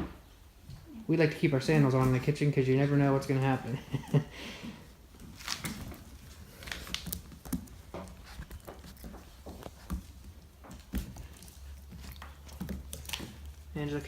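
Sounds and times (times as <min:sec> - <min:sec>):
puppy paws scampering on floor: 0:00.0 - 0:14.0.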